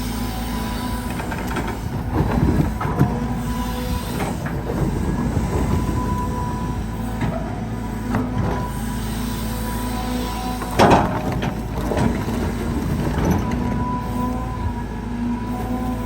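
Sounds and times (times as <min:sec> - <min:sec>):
diesel excavator working: 0:00.0 - 0:16.0
hydraulic pump whine: 0:00.0 - 0:16.0.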